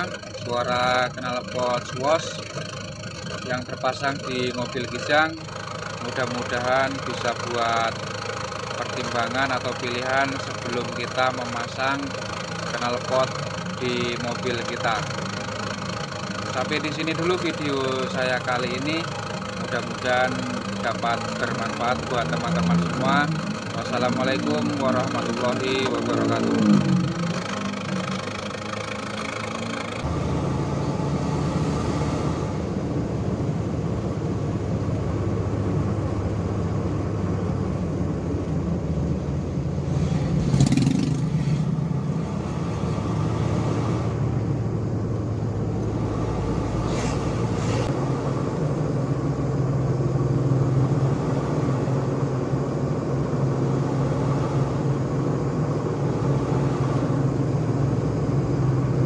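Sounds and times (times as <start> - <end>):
car engine droning inside cabin: 0.0 - 59.0.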